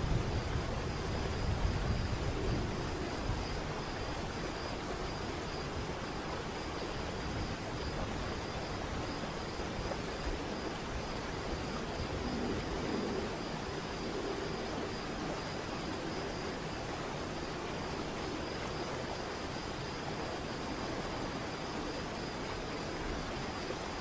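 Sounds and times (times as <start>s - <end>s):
low water rumble: 0.0s - 24.0s.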